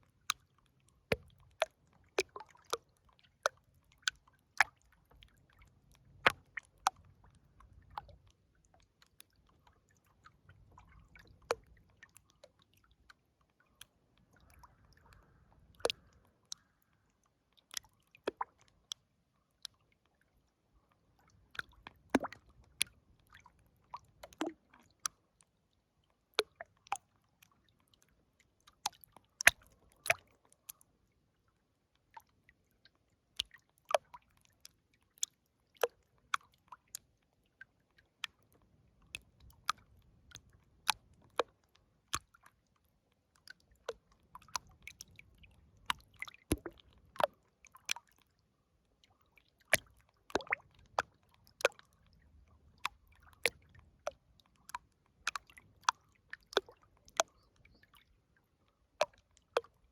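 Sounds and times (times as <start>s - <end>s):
water lapping and dripping: 0.0s - 59.9s.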